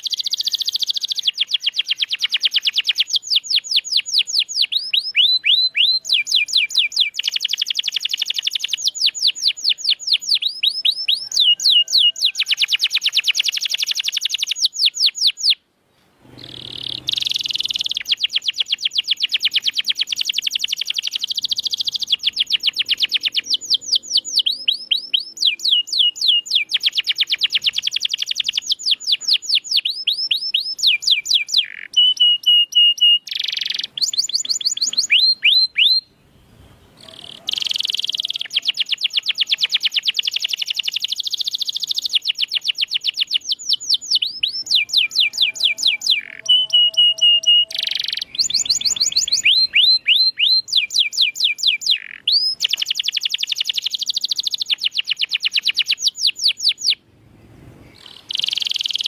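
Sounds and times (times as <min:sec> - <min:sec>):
canary singing trills: 0:00.0 - 0:15.6, 0:16.2 - 0:57.0, 0:57.8 - 0:59.0.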